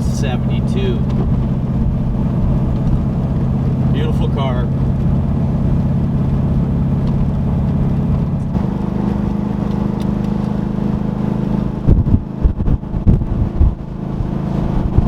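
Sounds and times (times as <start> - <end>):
car engine running: 0.0 - 15.0
loud irregular low thumps: 0.0 - 15.0.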